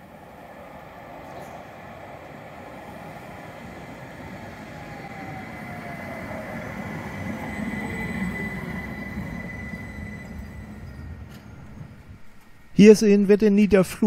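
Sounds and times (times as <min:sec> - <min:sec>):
tram passing on track: 0:00.0 - 0:13.0.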